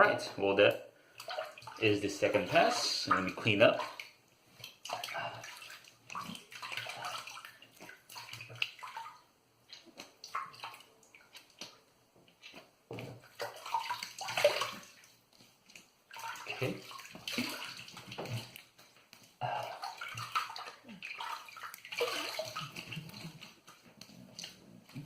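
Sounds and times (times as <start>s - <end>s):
water splashing at a sink: 0.6s - 25.0s.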